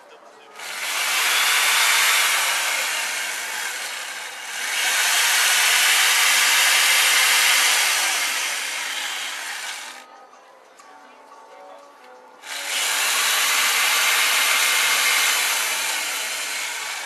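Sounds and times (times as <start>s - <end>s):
chainsaw cutting ice: 0.6s - 10.0s, 12.4s - 17.0s.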